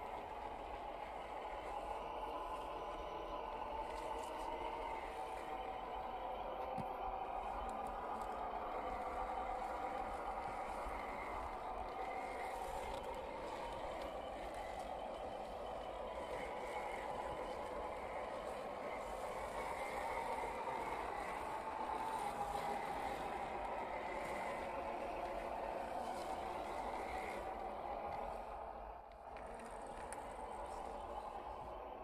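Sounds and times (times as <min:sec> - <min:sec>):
electric motor and gears whining: 0:00.0 - 0:32.0.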